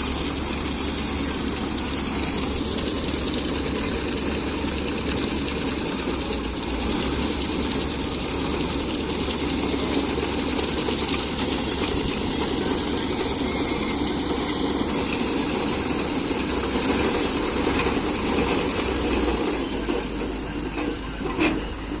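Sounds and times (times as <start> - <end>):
combine harvester clatter: 0.0 - 22.0.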